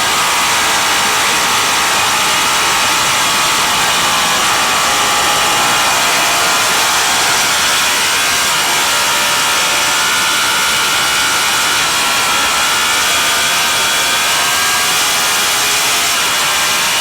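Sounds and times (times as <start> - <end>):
racing motorcycle engine: 0.0 - 17.0.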